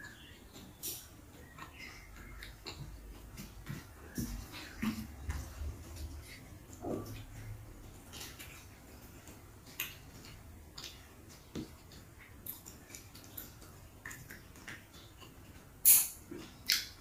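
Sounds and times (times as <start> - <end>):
wet chewing clicks: 0.0 - 17.0.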